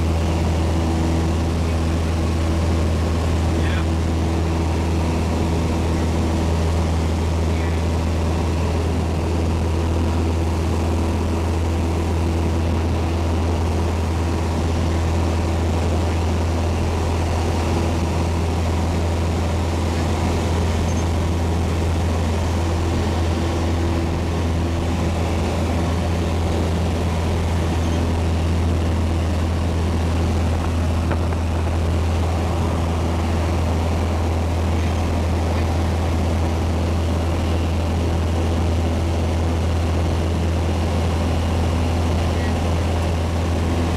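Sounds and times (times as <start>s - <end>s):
propeller plane engine droning: 0.0s - 43.9s.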